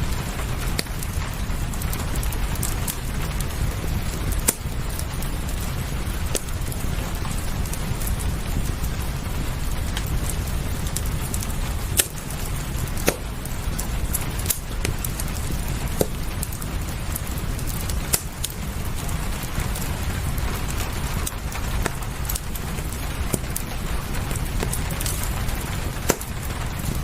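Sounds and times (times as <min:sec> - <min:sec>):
steady rain: 0:00.0 - 0:27.0
wood fire crackling and popping: 0:00.0 - 0:27.0.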